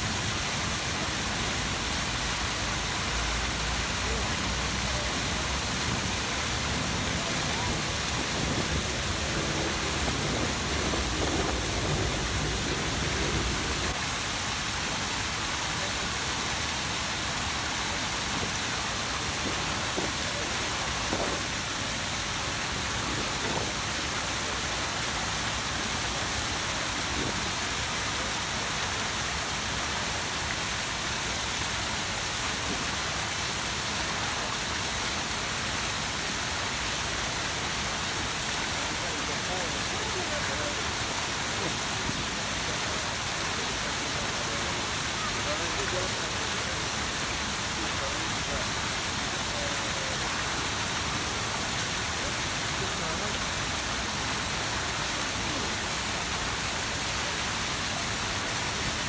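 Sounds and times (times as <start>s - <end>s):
fountain jets splashing into pool: 0.0s - 59.0s.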